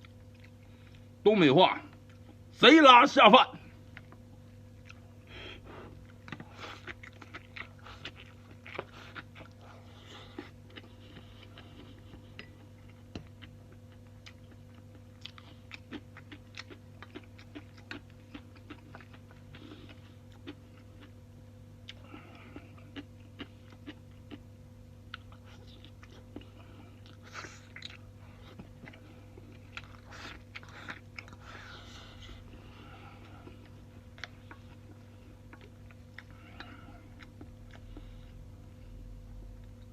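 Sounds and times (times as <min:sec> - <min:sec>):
man chewing and crunching: 0:00.0 - 0:02.6, 0:03.6 - 0:39.9
steady low hum: 0:00.0 - 0:39.9.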